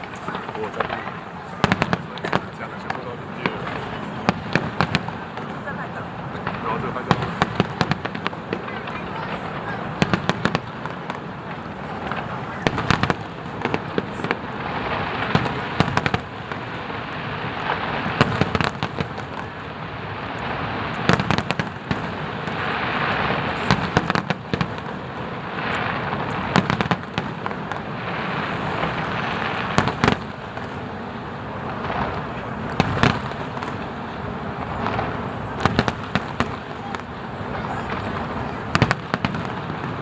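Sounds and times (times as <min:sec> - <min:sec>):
fireworks crackling: 0:00.0 - 0:40.0.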